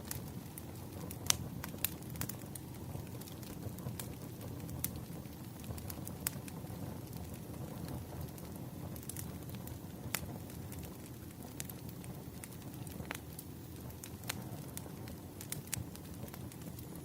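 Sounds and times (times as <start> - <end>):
burning wood crackling and popping: 0.0 - 17.0
rush of flames: 0.0 - 17.0.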